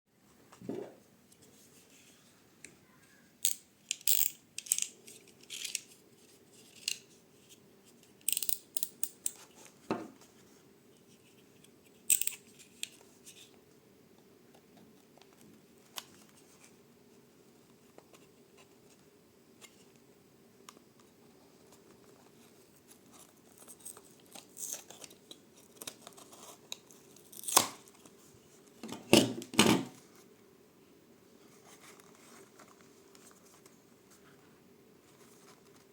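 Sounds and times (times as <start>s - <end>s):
faint steady hum: 0.2s - 35.9s.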